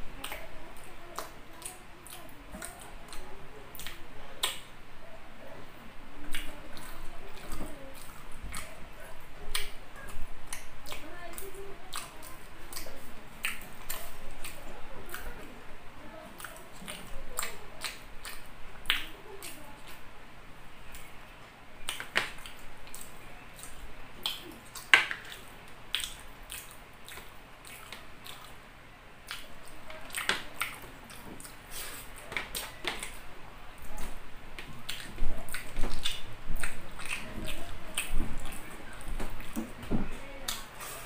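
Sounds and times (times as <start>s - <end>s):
man chewing with lip smacks: 0.0s - 4.8s, 6.2s - 15.5s, 16.3s - 20.1s, 21.8s - 41.0s.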